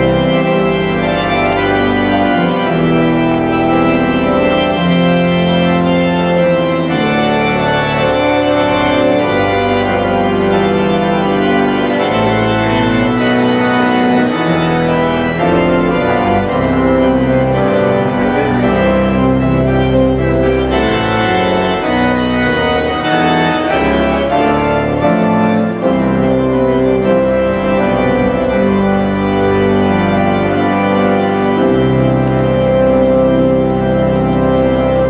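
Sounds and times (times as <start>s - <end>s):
organ playing slow chords: 0.0s - 35.0s.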